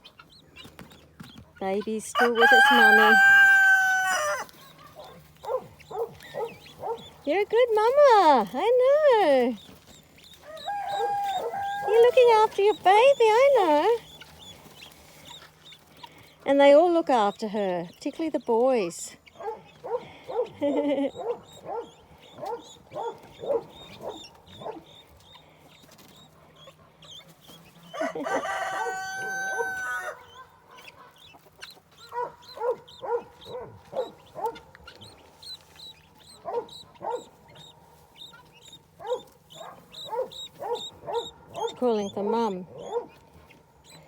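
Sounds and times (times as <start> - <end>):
guinea fowl keet peeping: 0.0 - 44.0
guinea fowl calling: 1.9 - 7.2, 10.2 - 16.3, 19.3 - 44.0.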